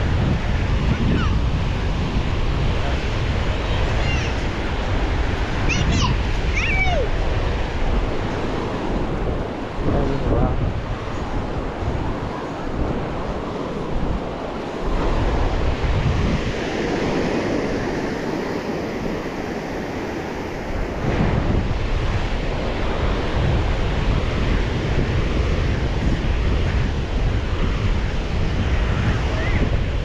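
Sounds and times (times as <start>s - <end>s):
surf washing onto beach: 0.0s - 30.0s
wind buffeting microphone: 0.0s - 30.0s.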